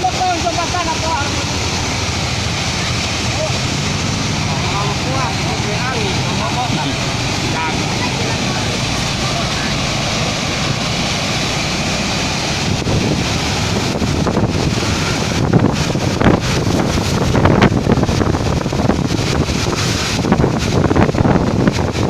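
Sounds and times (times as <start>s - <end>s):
waterfall roaring: 0.0s - 22.0s
wind buffeting microphone: 0.0s - 22.0s.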